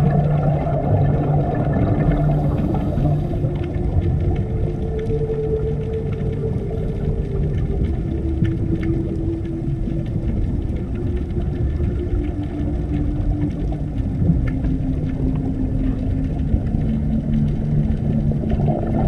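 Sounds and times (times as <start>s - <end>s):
deep underwater rumble: 0.0s - 19.0s.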